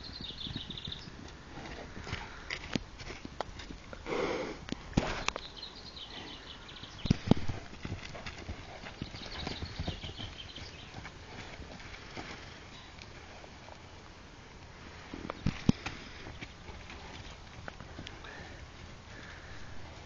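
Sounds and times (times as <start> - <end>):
horse hooves knocking on grass: 0.0 - 4.0, 7.0 - 19.3.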